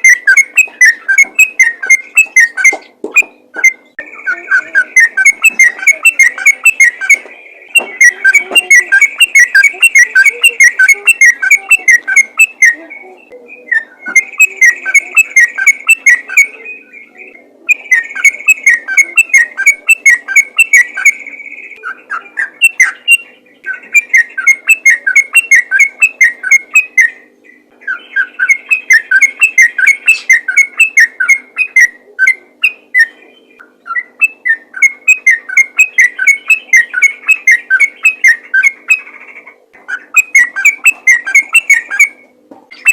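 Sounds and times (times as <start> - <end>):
bird singing whistled notes: 0.0 - 39.2, 40.0 - 42.9.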